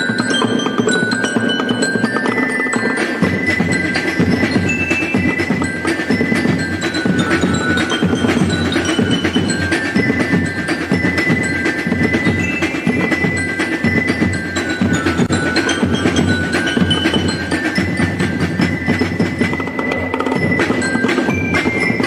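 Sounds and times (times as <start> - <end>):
percussion music with metal instruments: 0.0 - 22.0.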